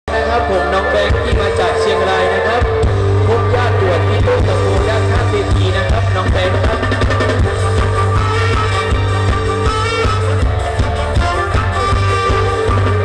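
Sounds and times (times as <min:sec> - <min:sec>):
live band playing amplified music: 0:00.1 - 0:13.0.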